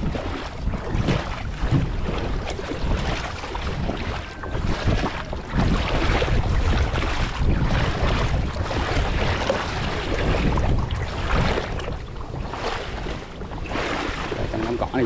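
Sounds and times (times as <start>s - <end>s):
water lapping around a boat: 0.0s - 15.0s
wind rumbling on microphone: 0.0s - 15.0s.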